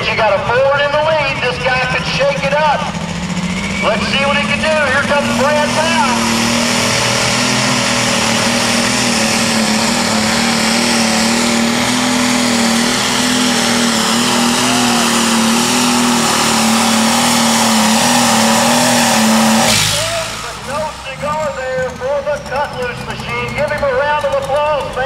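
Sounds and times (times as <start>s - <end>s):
pulling tractor diesel engine roaring: 0.0s - 25.0s.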